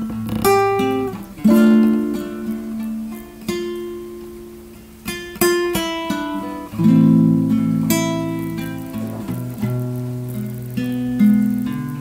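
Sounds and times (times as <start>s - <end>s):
plucked guitar music: 0.0s - 12.0s.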